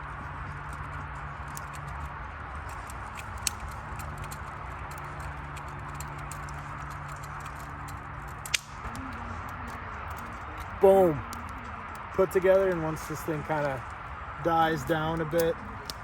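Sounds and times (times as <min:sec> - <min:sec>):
campfire crackling: 0:00.0 - 0:16.0
low steady hum: 0:00.0 - 0:16.0.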